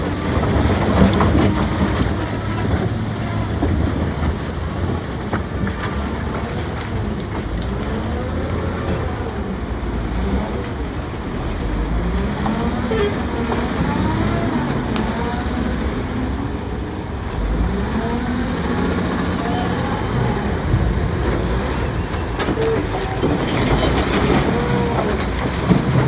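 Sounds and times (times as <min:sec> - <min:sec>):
heavy machinery engine rumble: 0:00.0 - 0:26.0.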